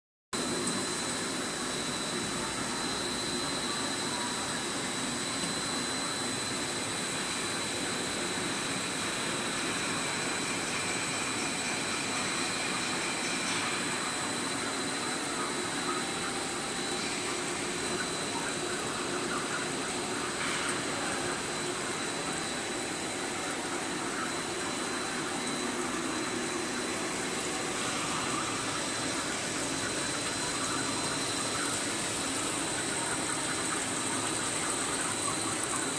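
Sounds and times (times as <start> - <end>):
high-pitched whine: 0.4 - 35.9
machine drone: 0.4 - 35.9.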